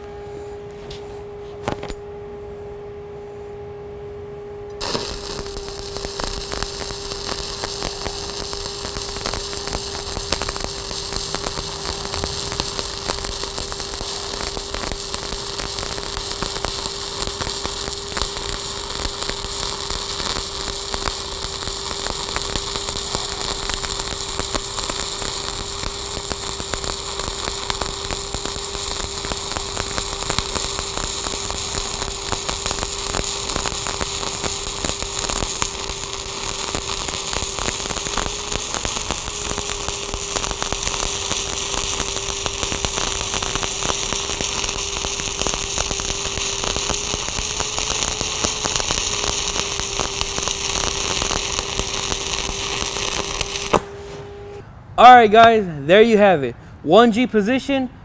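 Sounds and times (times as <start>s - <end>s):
steady hum: 0.0s - 58.0s
welding arc crackling: 4.8s - 54.2s.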